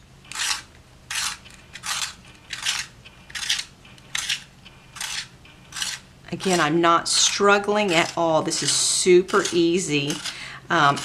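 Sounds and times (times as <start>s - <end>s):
pencil sharpener scraping wood: 0.3s - 11.0s.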